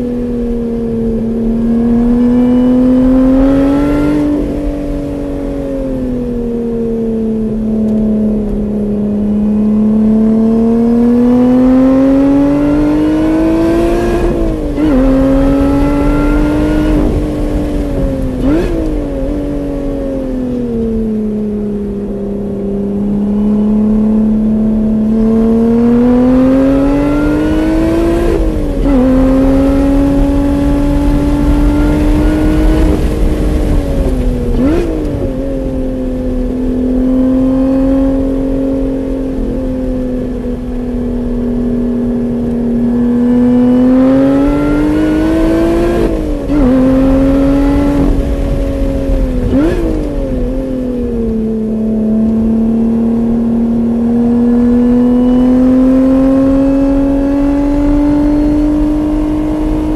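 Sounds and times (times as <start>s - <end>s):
car engine revving: 0.0s - 6.1s, 6.8s - 59.9s.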